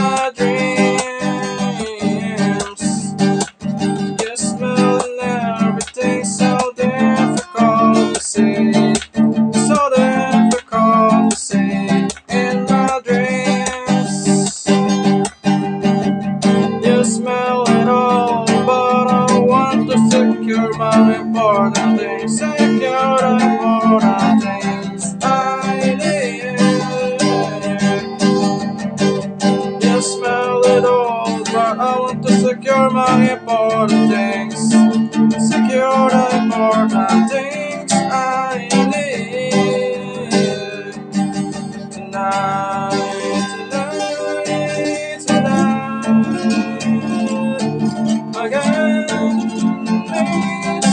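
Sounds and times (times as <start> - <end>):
man singing: 0.0 - 15.1, 16.4 - 28.8, 29.4 - 50.9
acoustic guitar strumming: 0.0 - 50.9.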